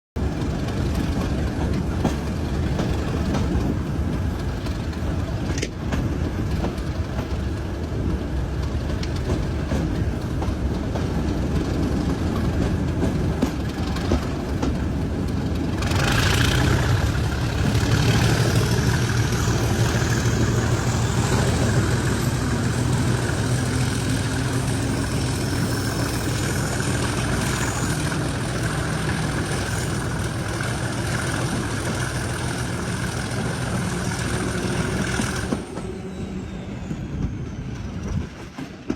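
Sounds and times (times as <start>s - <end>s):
locomotive engine working: 0.2s - 38.9s
train running: 0.2s - 38.9s.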